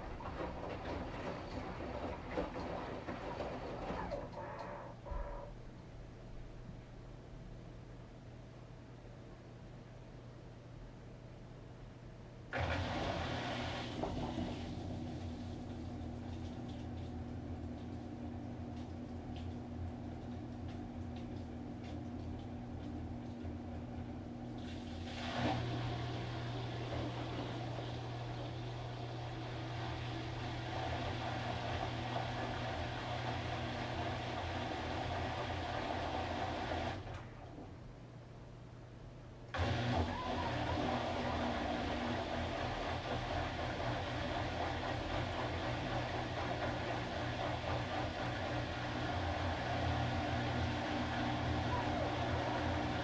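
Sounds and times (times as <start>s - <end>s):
washing machine motor humming: 0.0s - 7.4s, 12.5s - 53.0s.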